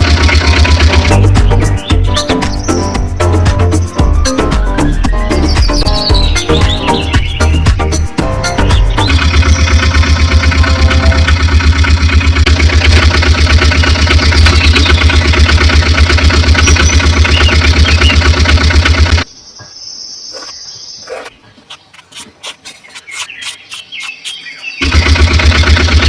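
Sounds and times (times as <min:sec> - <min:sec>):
tractor engine running: 0:00.0 - 0:19.3, 0:21.2 - 0:26.0.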